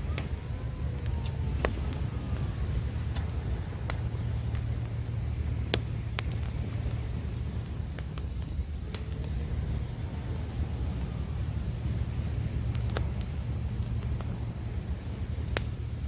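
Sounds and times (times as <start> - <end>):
campfire crackling and popping: 0.0 - 16.0
ocean waves rumbling: 0.0 - 16.0.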